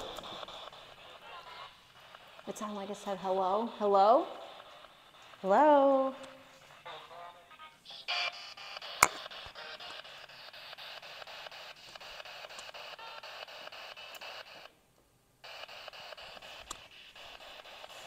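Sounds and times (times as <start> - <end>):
pulsing radio static: 0.0 - 14.7, 15.4 - 18.0.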